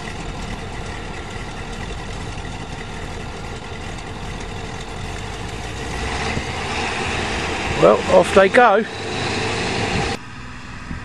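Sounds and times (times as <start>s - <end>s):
engines idling: 0.0s - 11.0s.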